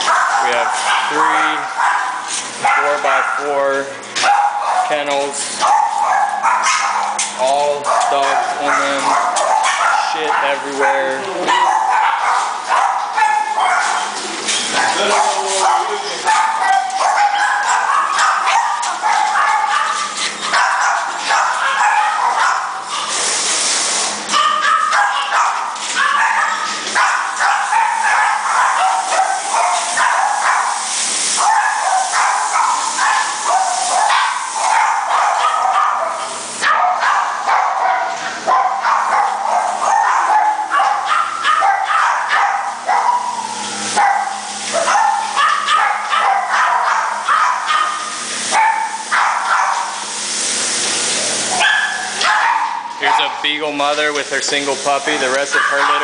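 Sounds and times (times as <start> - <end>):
dogs barking and yapping: 0.0 - 56.0.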